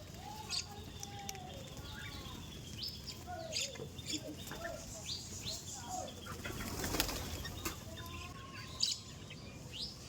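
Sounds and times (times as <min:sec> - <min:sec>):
birds chirping and whistling: 0:00.2 - 0:10.0.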